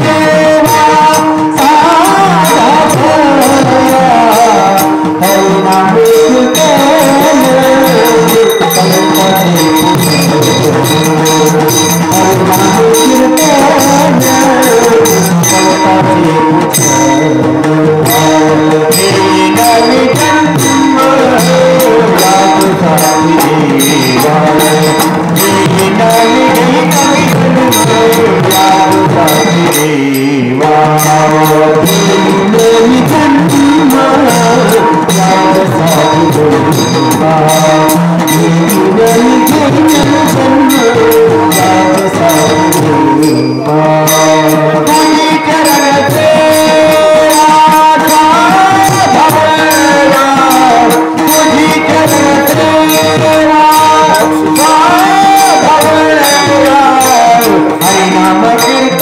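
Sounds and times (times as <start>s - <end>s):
drum beat: 0.0s - 59.0s
hand cymbals clashing: 0.0s - 59.0s
men chanting devotional song: 0.0s - 59.0s.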